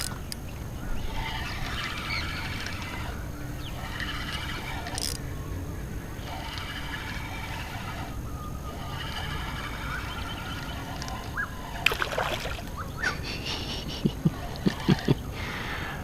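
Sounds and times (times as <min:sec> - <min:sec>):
water around kayak: 0:00.0 - 0:16.0
wind: 0:00.0 - 0:16.0.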